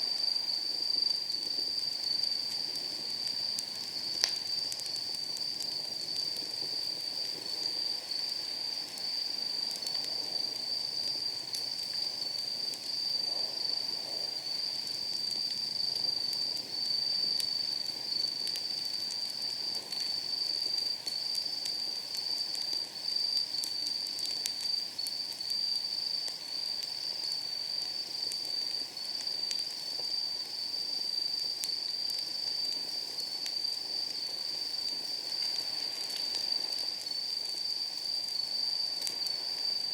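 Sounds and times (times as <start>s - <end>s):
insects chirring: 0.0s - 39.9s
firewood crackling: 2.0s - 13.0s, 15.4s - 39.9s.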